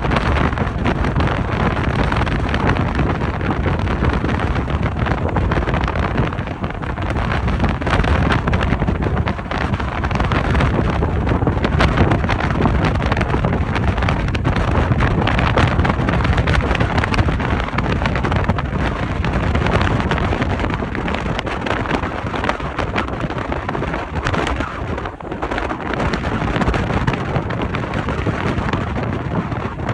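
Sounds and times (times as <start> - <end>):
ferry running noise: 0.0 - 29.9
wind blowing across microphone: 0.0 - 29.9.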